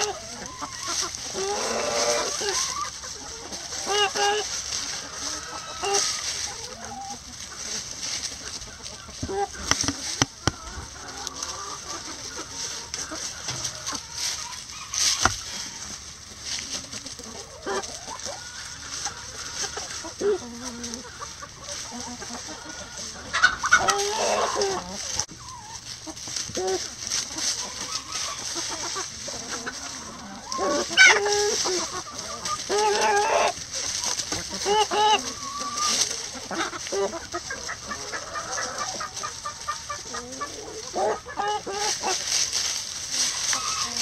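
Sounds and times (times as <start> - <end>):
chickens clucking: 0.0 - 44.0
dry leaves crackling: 0.0 - 44.0.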